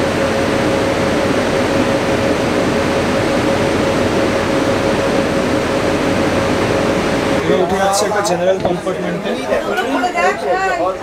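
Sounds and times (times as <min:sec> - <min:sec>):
train machinery whirring hum: 0:00.0 - 0:11.0.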